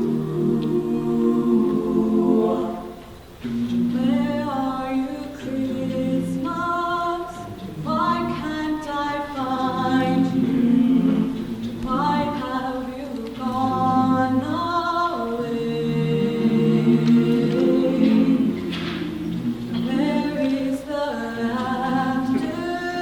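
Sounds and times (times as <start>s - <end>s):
choir singing a cappella: 0.0s - 23.0s.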